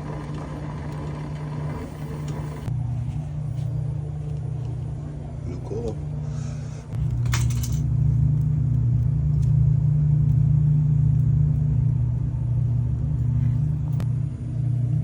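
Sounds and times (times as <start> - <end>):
loud low machine hum: 0.0 - 15.0.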